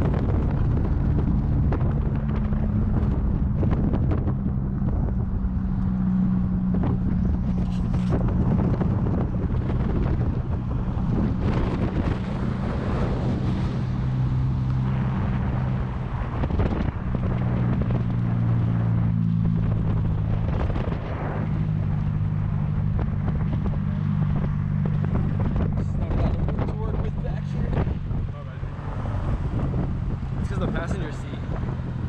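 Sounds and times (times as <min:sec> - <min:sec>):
motor running with low drone: 0:00.0 - 0:32.0
wind on microphone: 0:00.0 - 0:32.0.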